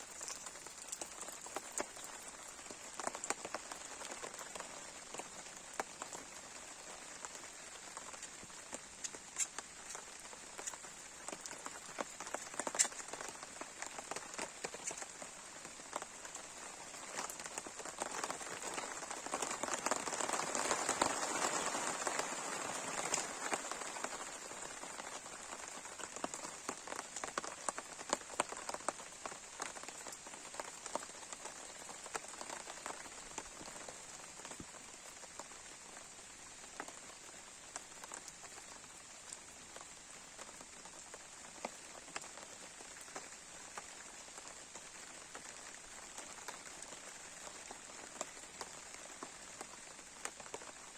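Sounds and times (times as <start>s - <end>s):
campfire crackling and popping: 0.0s - 50.8s.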